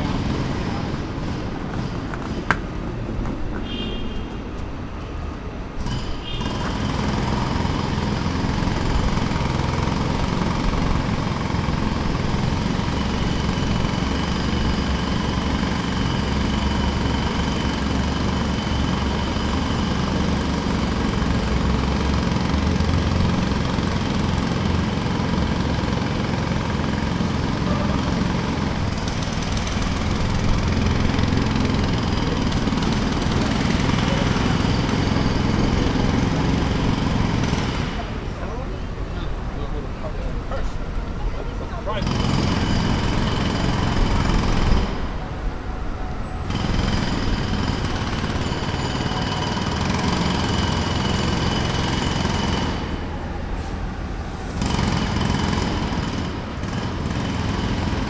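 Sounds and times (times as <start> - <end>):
jackhammer breaking pavement: 0.0 - 2.9, 5.7 - 39.7, 41.9 - 45.4, 46.2 - 53.5, 54.4 - 58.0.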